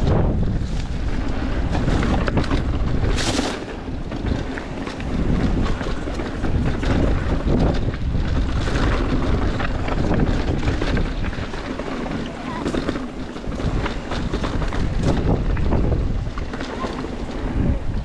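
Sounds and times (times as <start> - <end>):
bike rumble over rock: 0.0 - 18.0
wind buffeting microphone: 0.0 - 18.0.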